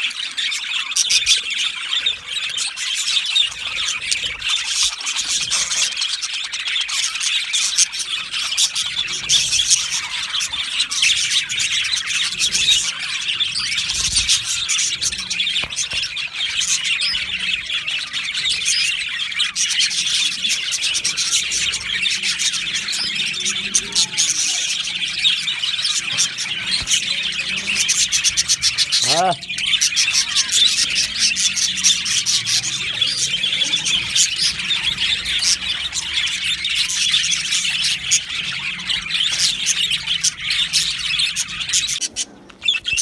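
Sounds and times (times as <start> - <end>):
budgerigars chirping and chattering: 0.0 - 43.0.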